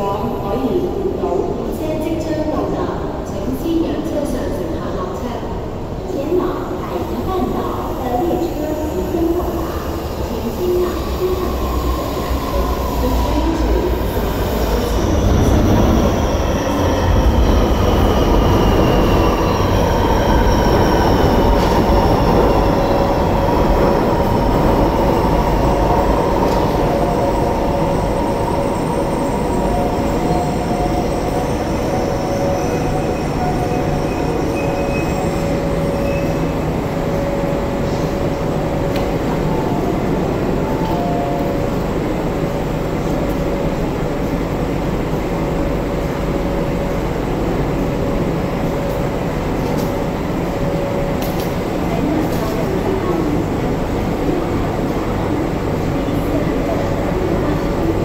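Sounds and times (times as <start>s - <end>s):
train braking to a stop: 6.9s - 58.0s
train traction whine: 6.9s - 58.0s.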